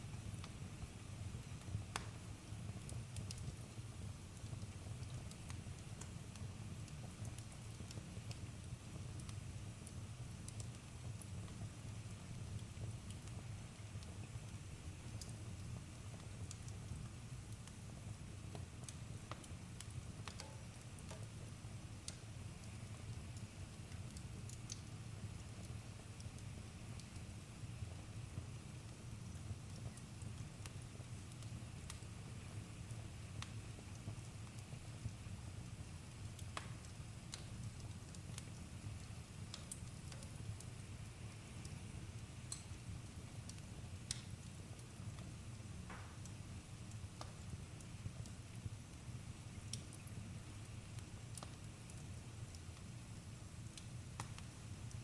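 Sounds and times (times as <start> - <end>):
low rumble of burning fire: 0.0 - 55.0
campfire crackling and popping: 0.1 - 53.0, 53.7 - 55.0.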